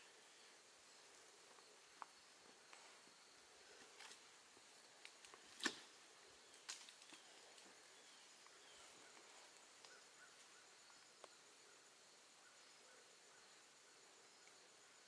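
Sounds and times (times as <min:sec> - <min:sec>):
faint insect hum: 0:00.0 - 0:15.0.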